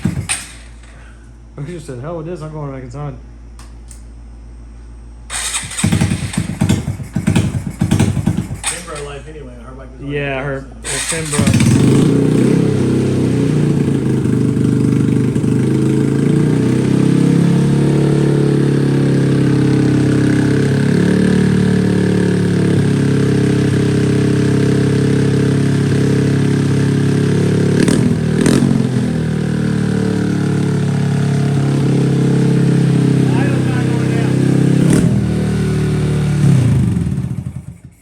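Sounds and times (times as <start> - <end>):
motorcycle engine running: 0.0 - 0.9, 5.3 - 9.0, 10.8 - 38.0.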